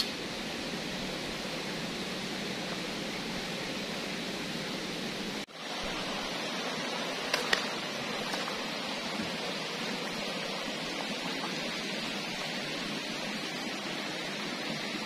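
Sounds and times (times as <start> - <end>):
river rushing over rocks: 1.3 - 15.0.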